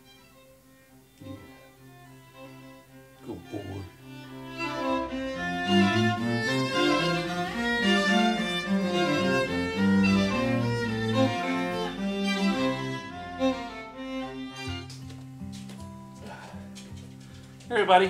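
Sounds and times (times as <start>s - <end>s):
cello: 0.0s - 17.7s
violin: 0.0s - 18.0s.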